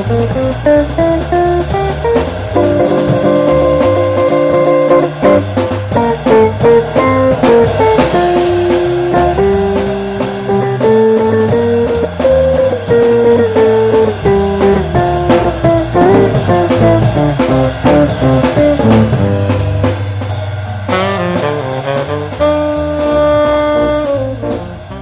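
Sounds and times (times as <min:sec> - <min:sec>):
guitar melody: 0:00.0 - 0:20.2, 0:20.9 - 0:25.0
steady drum beat: 0:00.0 - 0:25.0.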